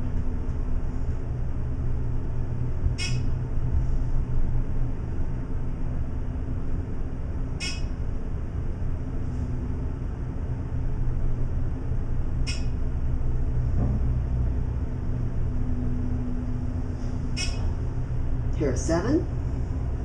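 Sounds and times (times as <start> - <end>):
elevator rumble and hum: 0.0 - 20.0.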